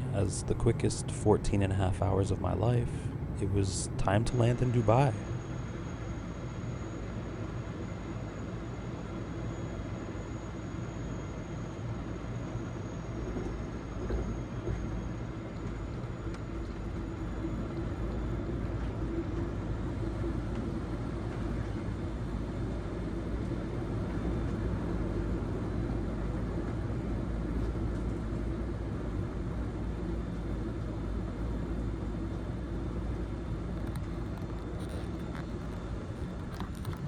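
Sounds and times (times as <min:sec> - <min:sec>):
low rumble of engines and airflow: 0:00.0 - 0:37.0.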